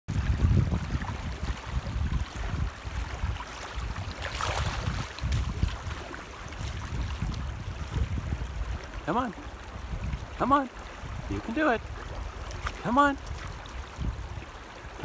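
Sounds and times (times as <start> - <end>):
shallow river rippling: 0.1 - 15.0
wind buffeting microphone: 0.1 - 15.0.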